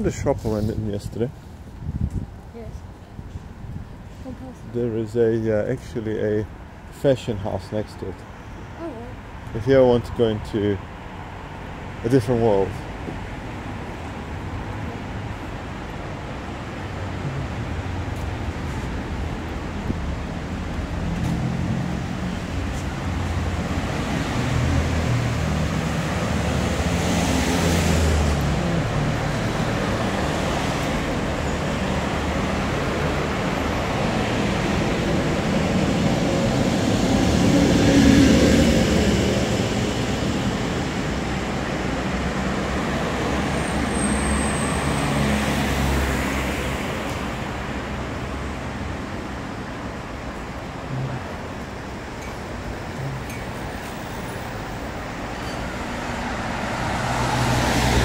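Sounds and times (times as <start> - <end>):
traffic rumble: 0.0 - 58.0
vehicles passing by close: 0.0 - 58.0.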